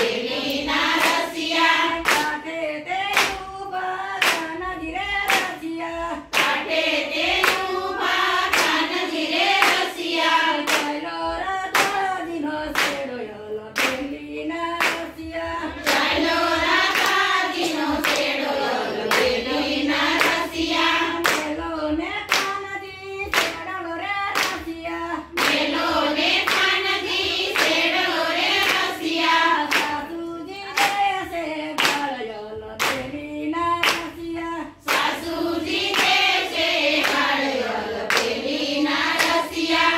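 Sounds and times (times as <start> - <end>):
hands clapping in steady beat: 0.0 - 39.9
women singing together: 0.0 - 39.9.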